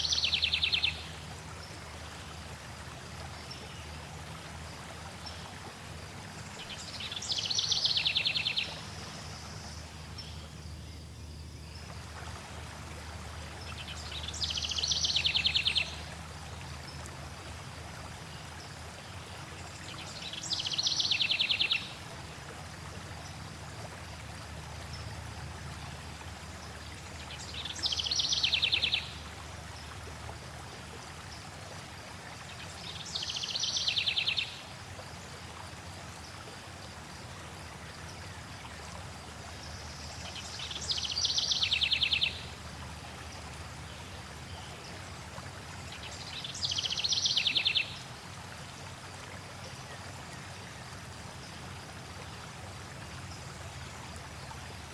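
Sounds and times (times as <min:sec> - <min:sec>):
water flowing: 0:00.0 - 0:54.9.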